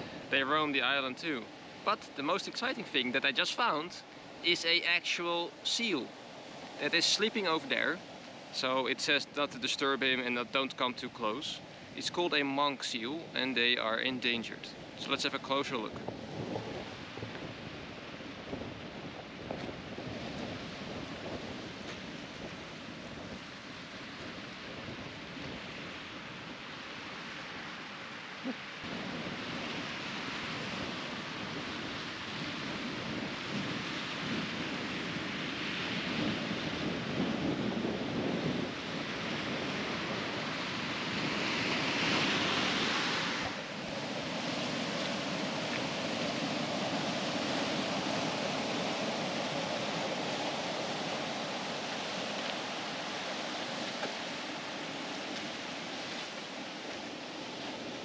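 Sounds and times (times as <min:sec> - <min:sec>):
ocean surf hissing: 0:00.0 - 0:10.4, 0:14.4 - 0:58.0
wind: 0:00.0 - 0:58.0.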